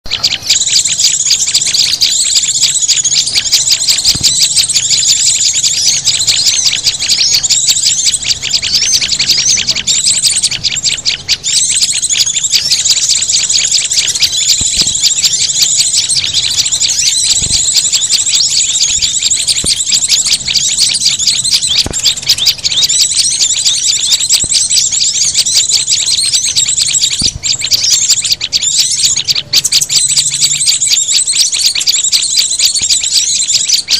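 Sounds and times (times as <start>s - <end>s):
small songbirds chirping: 0.0s - 33.9s.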